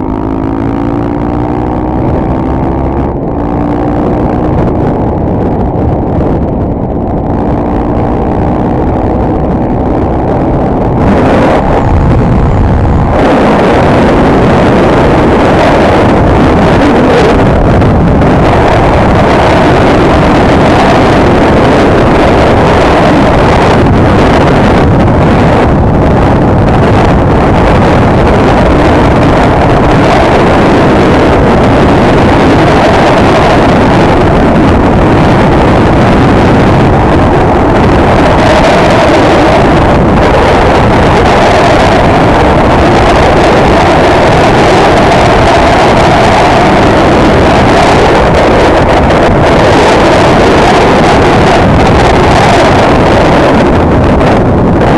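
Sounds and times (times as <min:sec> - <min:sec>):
motorcycle engine running: 0:00.0 - 0:54.9
wind noise on microphone: 0:00.0 - 0:54.9.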